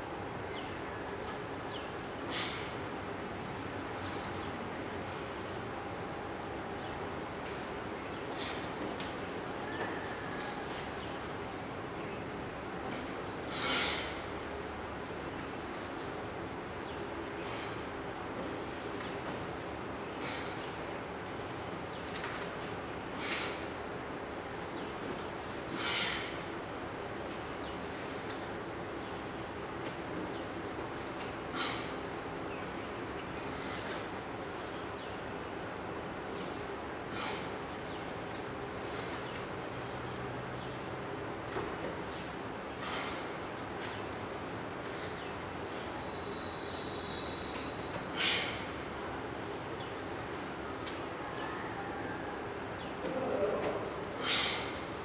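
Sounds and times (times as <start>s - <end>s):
background hiss: 0.0s - 55.0s
crickets chirping: 0.0s - 55.0s
insects trilling: 0.0s - 55.0s.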